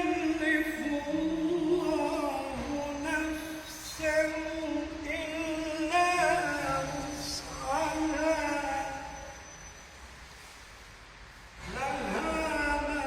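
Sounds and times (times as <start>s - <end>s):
man chanting melodically: 0.0s - 9.4s, 11.6s - 13.0s.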